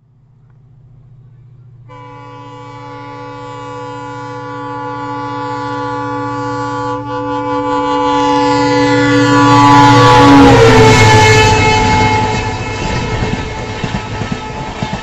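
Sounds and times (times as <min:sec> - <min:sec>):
diesel locomotive engine drone: 0:00.0 - 0:15.0
long multi-tone train horn: 0:01.8 - 0:15.0.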